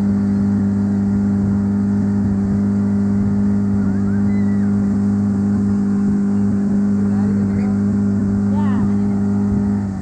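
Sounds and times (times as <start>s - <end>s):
motorboat engine droning: 0.0s - 10.0s.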